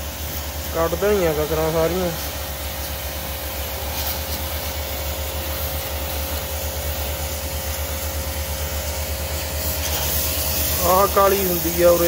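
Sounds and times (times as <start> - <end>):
pressure washer spraying: 0.0 - 12.0.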